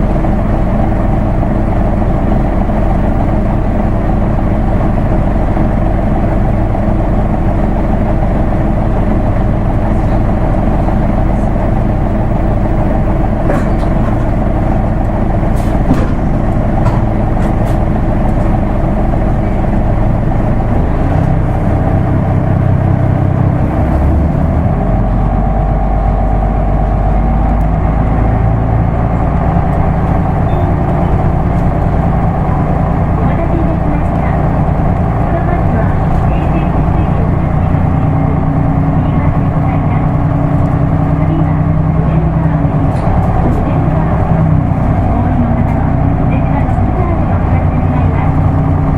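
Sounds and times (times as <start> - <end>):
bus diesel engine running: 0.0 - 48.9.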